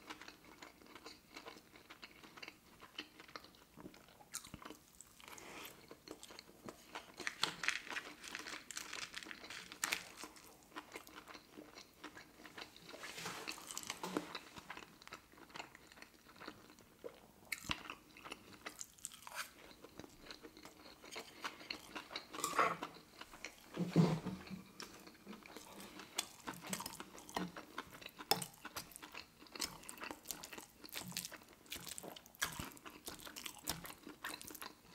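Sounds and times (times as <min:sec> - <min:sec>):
crunchy chewing: 0:00.0 - 0:23.8, 0:24.5 - 0:34.9.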